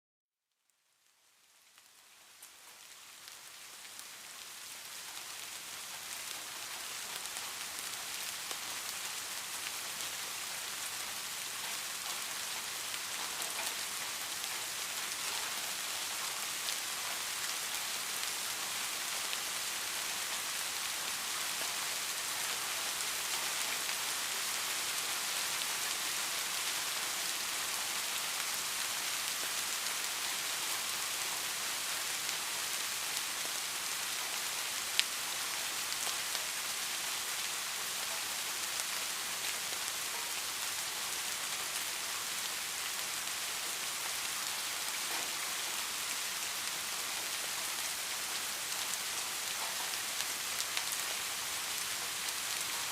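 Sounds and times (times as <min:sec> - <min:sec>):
rain pattering on a surface: 0:00.6 - 0:52.9.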